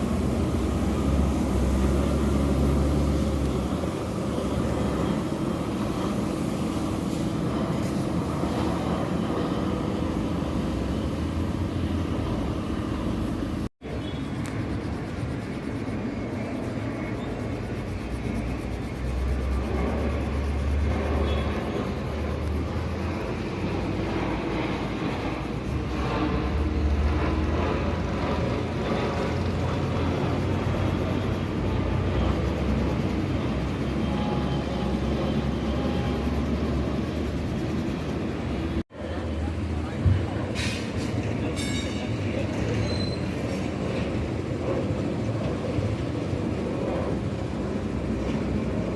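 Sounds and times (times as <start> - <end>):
low engine rumble: 0.0 - 48.9.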